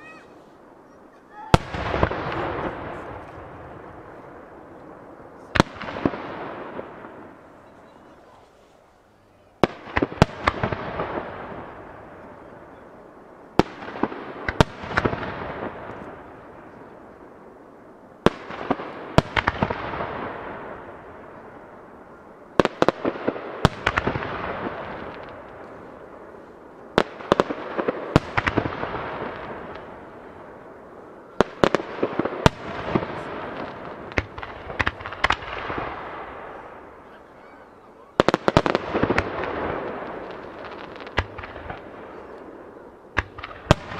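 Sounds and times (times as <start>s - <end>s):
crackling echo: 0.0s - 43.9s.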